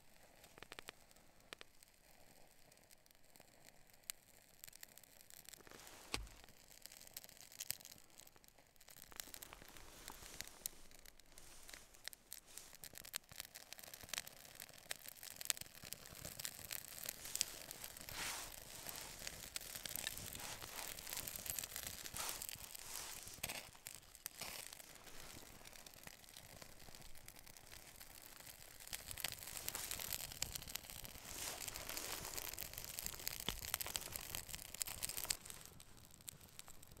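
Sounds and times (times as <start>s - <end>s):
fire crackling: 0.0s - 37.0s.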